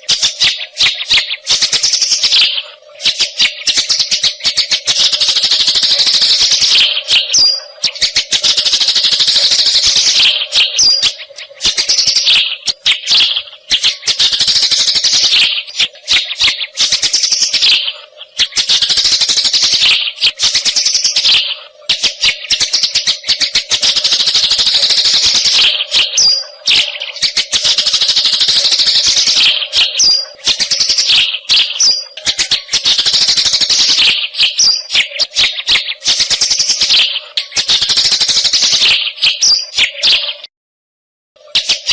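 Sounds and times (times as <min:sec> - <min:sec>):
sparrows chattering: 0:00.0 - 0:40.5, 0:41.5 - 0:41.9.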